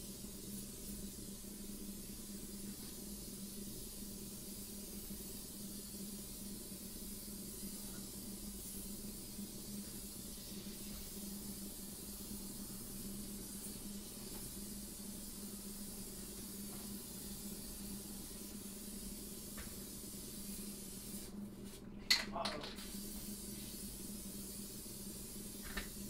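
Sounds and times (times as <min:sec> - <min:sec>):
aerosol spray can hissing: 0:00.0 - 0:21.8, 0:22.4 - 0:26.0.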